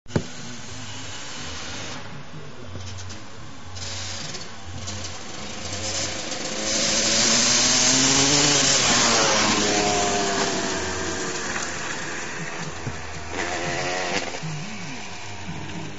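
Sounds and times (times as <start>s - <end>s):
motocross bike engine revving: 0.1s - 15.9s.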